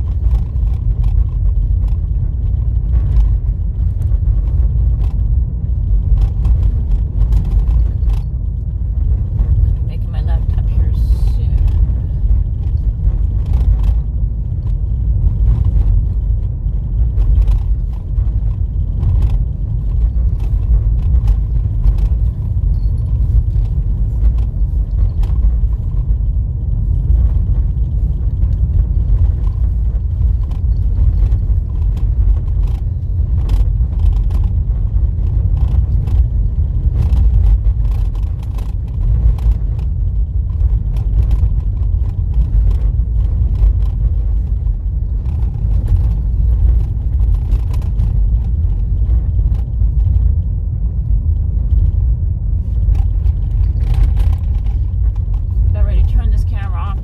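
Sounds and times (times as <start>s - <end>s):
small knocks and rattles: 0.0s - 9.9s, 11.6s - 55.7s
car tyres and engine rumbling: 0.0s - 57.0s.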